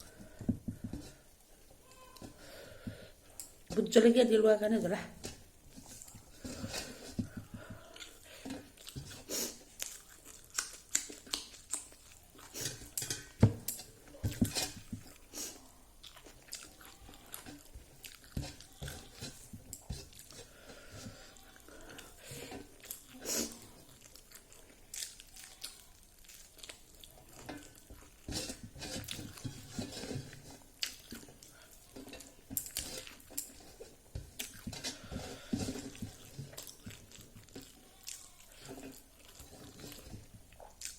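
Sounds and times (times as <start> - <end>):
person chewing and crunching food: 0.0 - 3.7, 5.2 - 40.9.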